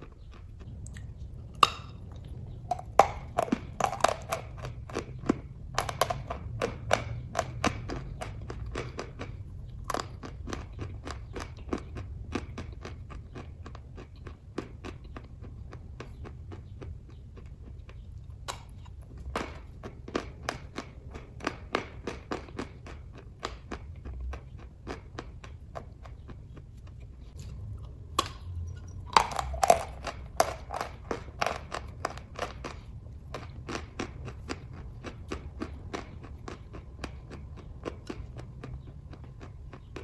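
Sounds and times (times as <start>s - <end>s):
chewing with moist mouth clicks: 0.0s - 40.0s.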